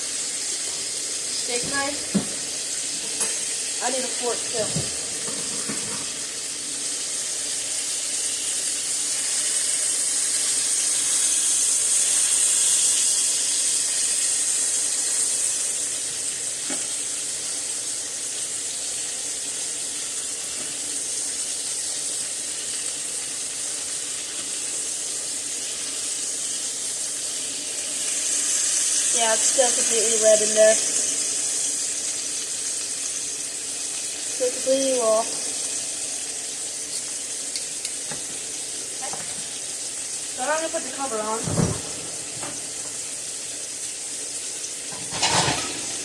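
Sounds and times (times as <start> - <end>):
steak sizzling in a frying pan: 0.0 - 46.0.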